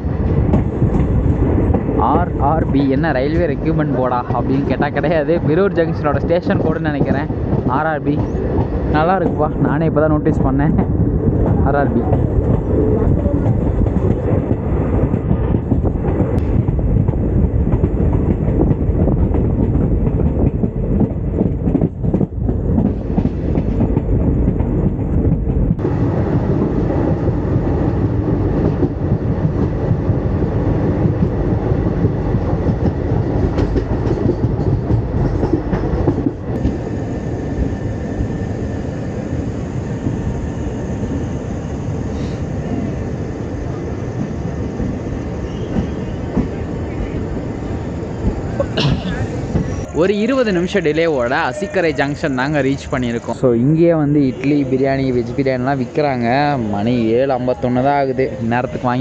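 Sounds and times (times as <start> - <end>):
passenger train rumbling: 0.0 - 59.0.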